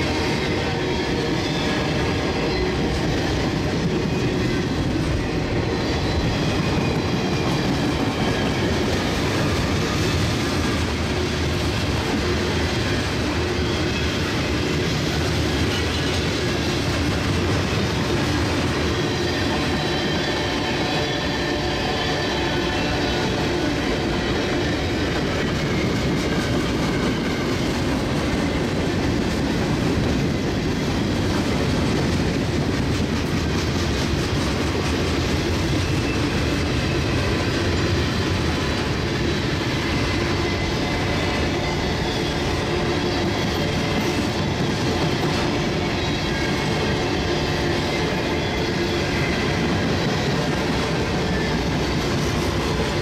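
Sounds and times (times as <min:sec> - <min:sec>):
freight train wheels rumbling on rail: 0:00.0 - 0:53.0.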